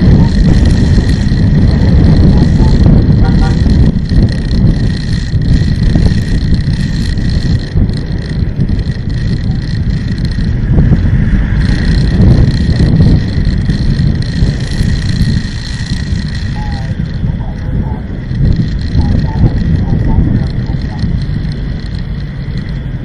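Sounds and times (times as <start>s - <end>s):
vehicle engine and road rumble: 0.0s - 23.0s
wind buffeting microphone: 0.0s - 23.0s.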